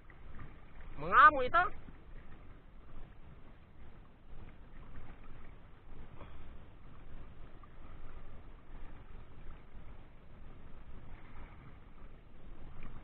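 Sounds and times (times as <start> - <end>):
water lapping: 0.0 - 13.0
wind rumbling on microphone: 0.0 - 13.0.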